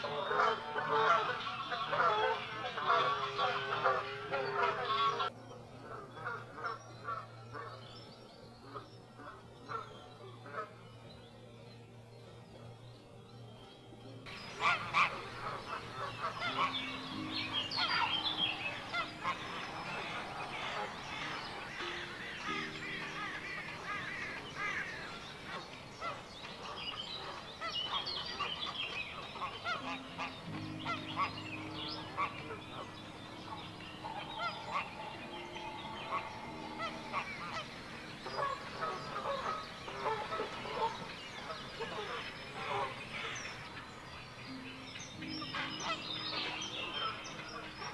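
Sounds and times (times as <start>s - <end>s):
heron colony calling: 0.0s - 7.7s, 14.3s - 47.9s.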